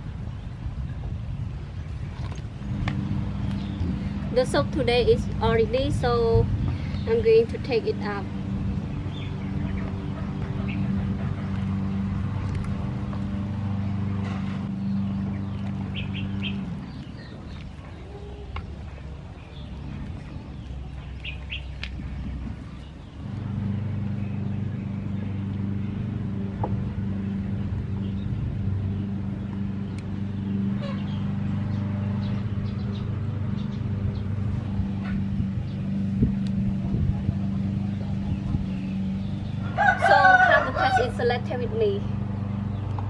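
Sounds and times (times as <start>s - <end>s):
motor humming: 1.8s - 39.9s.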